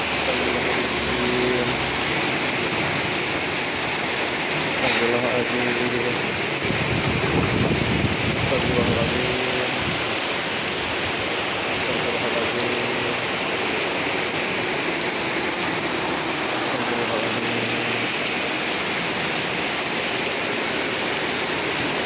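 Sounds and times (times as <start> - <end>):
torrential rain in wind: 0.0 - 22.0.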